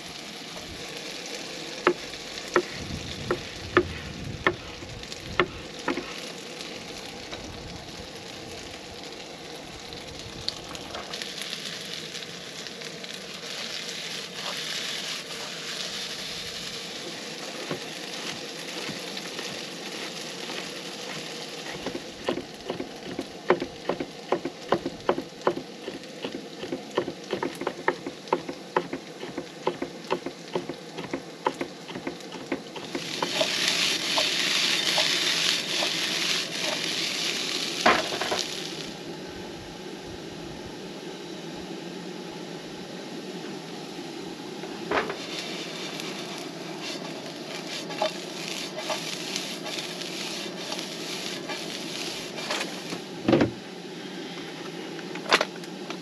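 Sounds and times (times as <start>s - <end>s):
food sizzling in a pan: 0.0s - 39.3s, 44.7s - 53.3s.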